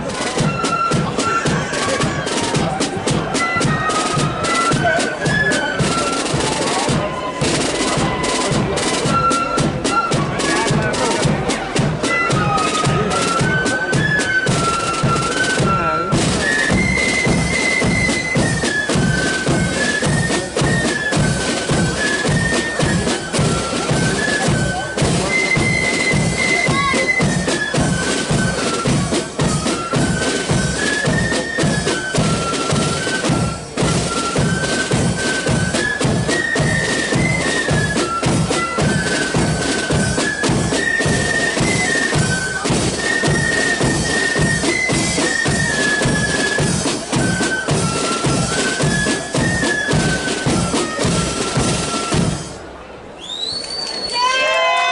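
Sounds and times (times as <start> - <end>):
marching drum beat: 0.0 - 52.6
flutes playing melody: 0.0 - 54.9.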